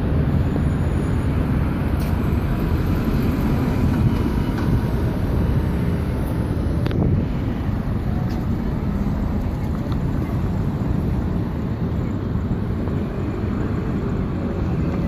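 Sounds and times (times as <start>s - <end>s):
buses passing: 0.0s - 15.0s
street traffic rumble: 0.0s - 15.0s
wind buffeting microphone: 1.1s - 15.0s.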